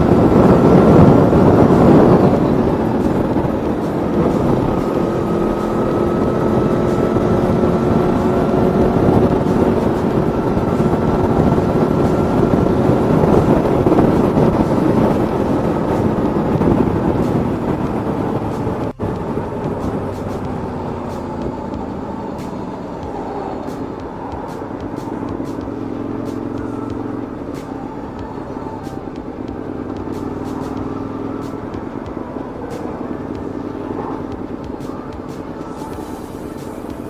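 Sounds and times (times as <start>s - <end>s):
motorcycle engine running: 0.0s - 37.0s
wind noise: 0.0s - 37.0s.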